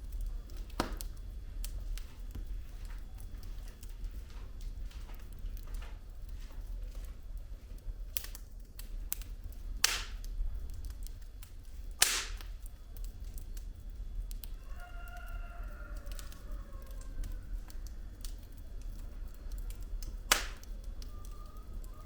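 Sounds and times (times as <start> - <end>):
firewood crackling in fireplace: 0.0 - 22.0
loud pops of burning wood: 0.0 - 22.0.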